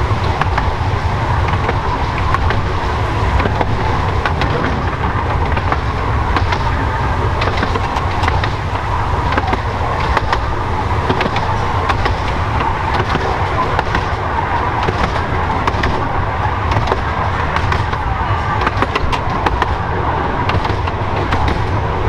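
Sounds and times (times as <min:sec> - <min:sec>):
train coach rolling rumble: 0:00.0 - 0:22.0
wheels clicking over rail joints: 0:00.0 - 0:22.0.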